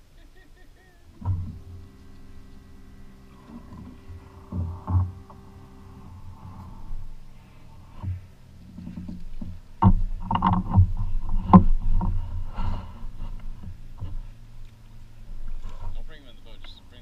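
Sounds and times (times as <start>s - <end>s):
low rumble: 1.0s - 17.0s
knocks and thumps on boat: 1.2s - 16.0s.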